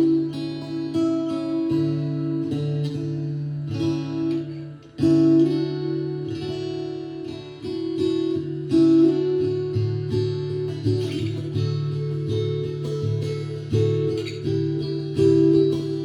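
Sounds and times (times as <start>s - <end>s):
acoustic guitar strummed with reverb: 0.0s - 16.0s.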